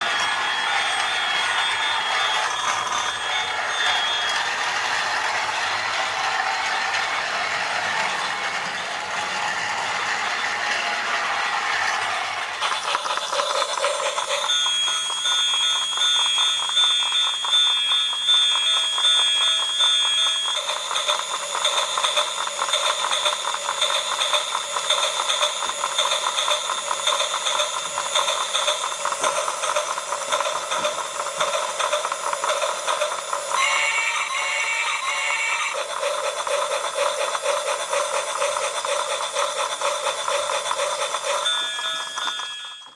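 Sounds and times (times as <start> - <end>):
toy train clattering on track: 0.0 - 42.9.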